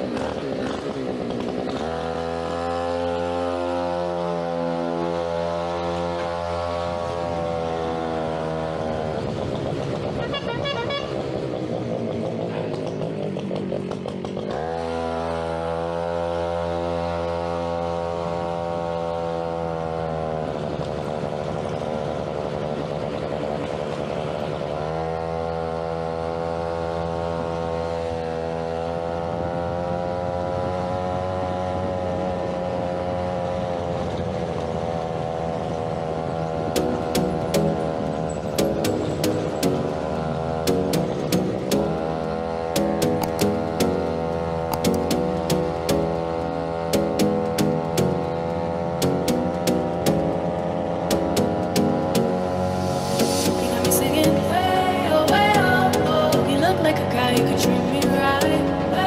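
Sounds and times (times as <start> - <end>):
small two-stroke scooter engine: 0.0 - 59.0.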